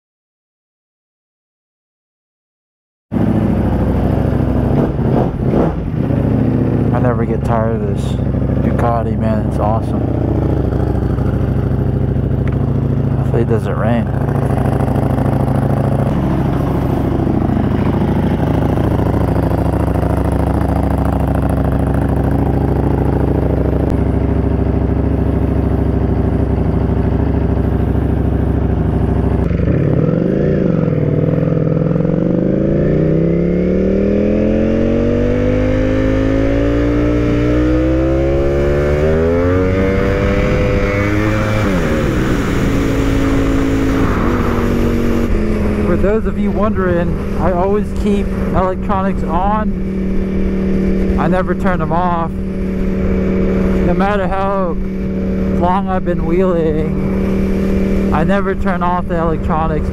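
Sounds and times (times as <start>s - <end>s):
motorcycle engine accelerating: 3.1s - 59.9s.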